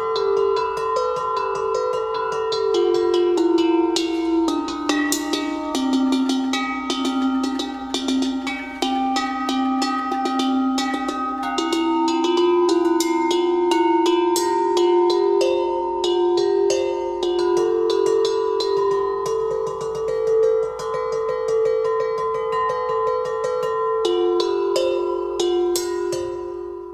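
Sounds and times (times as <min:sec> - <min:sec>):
cowbells ringing: 0:00.0 - 0:26.9.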